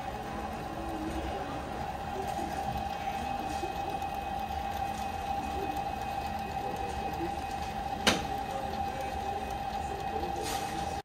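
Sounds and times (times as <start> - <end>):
machine mechanical hum: 0.0 - 11.0.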